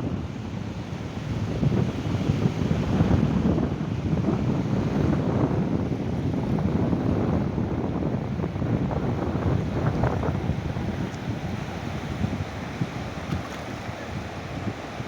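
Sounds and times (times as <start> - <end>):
sea waves on beach: 0.0 - 15.0
wind buffeting microphone: 0.0 - 15.0.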